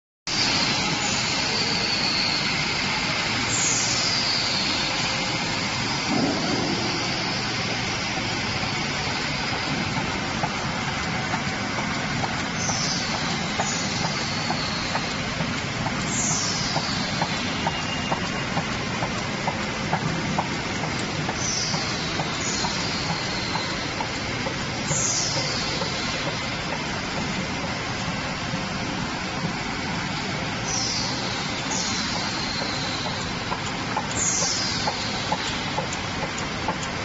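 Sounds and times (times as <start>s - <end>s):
filling line mechanical noise: 0.3s - 37.0s
faint regular ticking: 5.6s - 37.0s.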